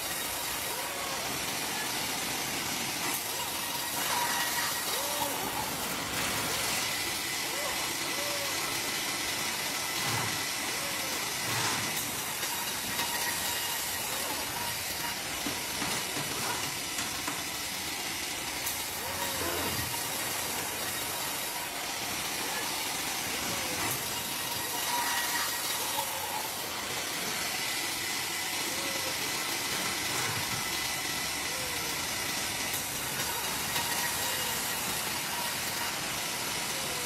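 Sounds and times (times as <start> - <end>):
band sawmill hissing: 0.0 - 37.0.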